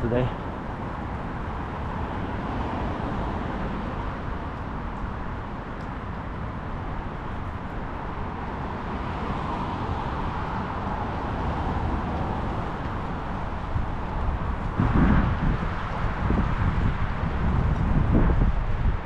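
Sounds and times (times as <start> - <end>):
road traffic noise: 0.0 - 19.0
wind buffeting microphone: 0.0 - 19.0.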